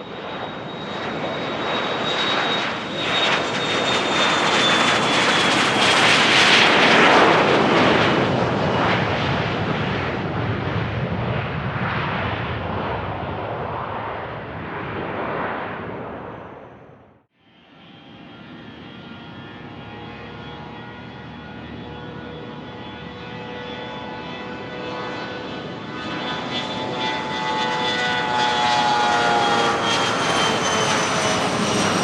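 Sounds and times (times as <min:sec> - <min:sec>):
jet engines passing: 0:00.0 - 0:32.0.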